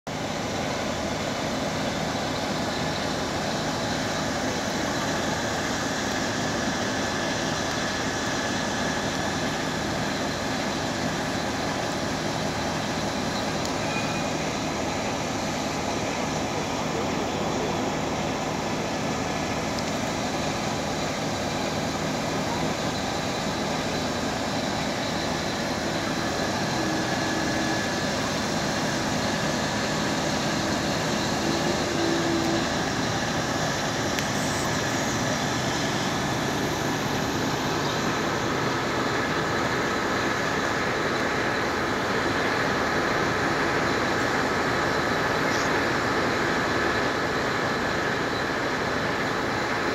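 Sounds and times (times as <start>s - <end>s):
crane diesel engine droning: 0.1s - 49.9s.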